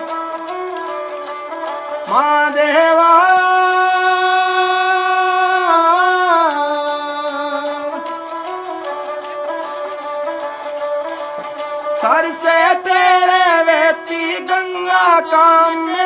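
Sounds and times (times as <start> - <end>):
bowed fiddle: 0.0 - 16.0
light jingling percussion: 0.0 - 16.0.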